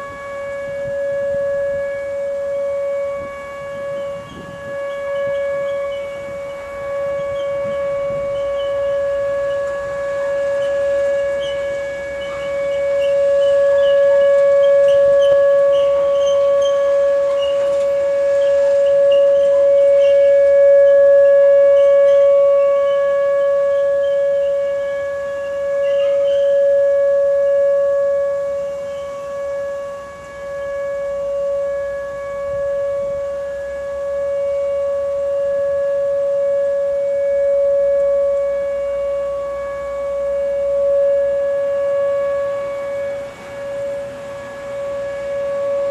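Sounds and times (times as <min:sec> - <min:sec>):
warning siren steady tone: 0:00.0 - 0:45.9.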